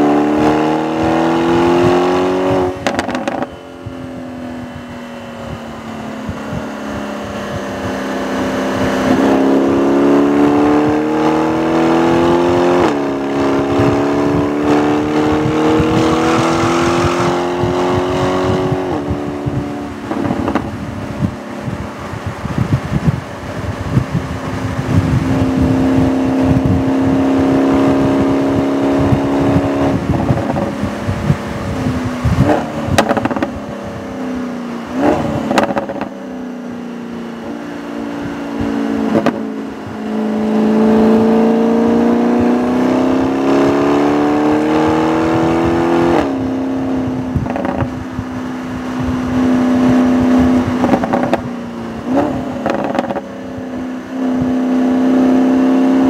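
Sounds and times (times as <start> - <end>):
car engine revving high: 0.0 - 56.0
road and wind rumble: 0.0 - 56.0.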